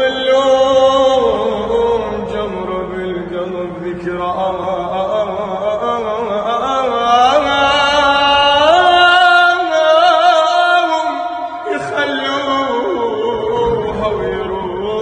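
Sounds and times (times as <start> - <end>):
man singing melismatic notes: 0.0 - 15.0.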